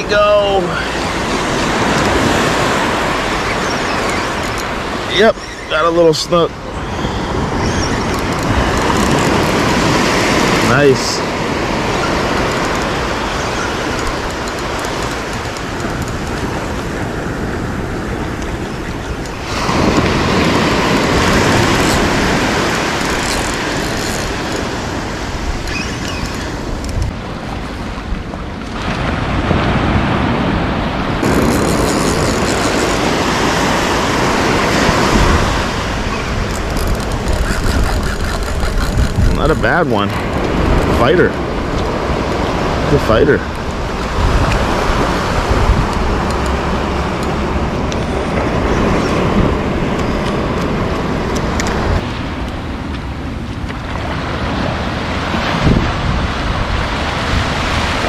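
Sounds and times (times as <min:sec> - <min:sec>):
small waves breaking on beach: 0:00.0 - 0:58.0
wind rumbling on microphone: 0:00.0 - 0:58.0.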